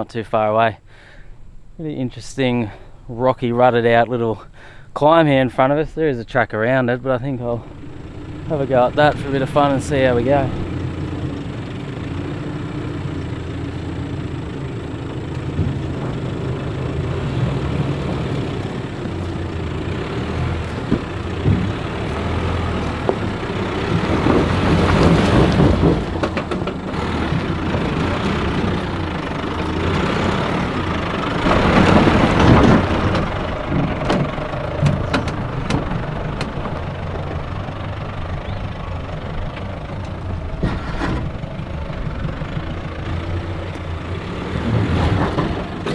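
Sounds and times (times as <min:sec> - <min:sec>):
truck engine climbing at low speed: 0:07.0 - 0:45.9.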